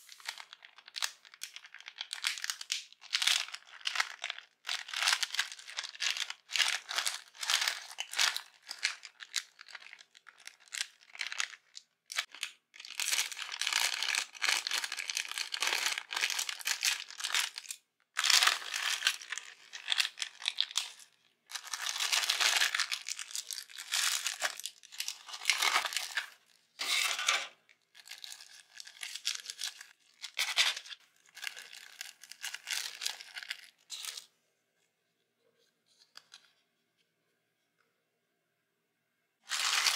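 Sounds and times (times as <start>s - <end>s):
plastic packaging crinkling: 0.0s - 34.3s, 39.5s - 39.9s.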